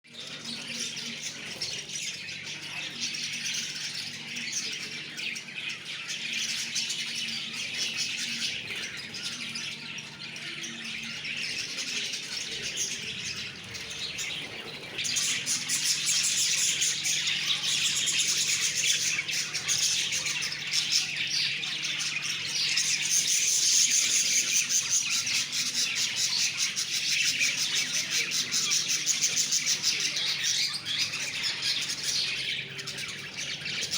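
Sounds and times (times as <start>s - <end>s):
lovebirds chattering: 0.1s - 33.9s.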